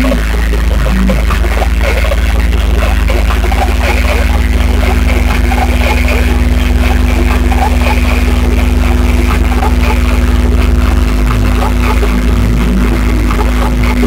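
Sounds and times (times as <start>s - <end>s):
held electronic tones: 0.0s - 14.0s
pulsing bass hum: 0.0s - 14.0s.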